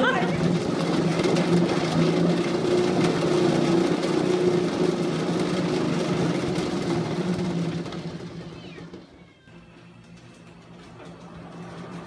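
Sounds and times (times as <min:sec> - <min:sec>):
exercise wheel whirring: 0:00.0 - 0:12.0.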